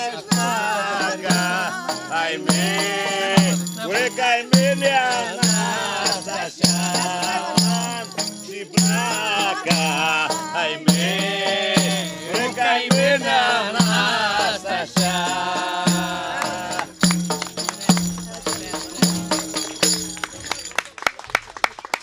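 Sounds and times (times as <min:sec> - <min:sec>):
voices singing: 0:00.0 - 0:20.2
frame drum with jingles: 0:00.0 - 0:20.7.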